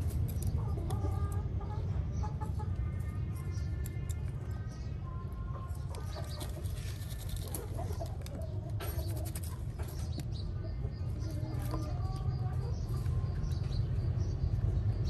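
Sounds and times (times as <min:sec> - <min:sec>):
chickens clucking: 0:00.1 - 0:15.0.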